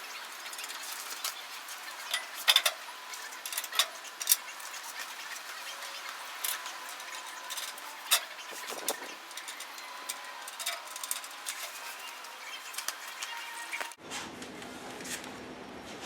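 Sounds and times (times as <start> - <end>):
hand tools clicking and tapping: 0.5 - 14.0.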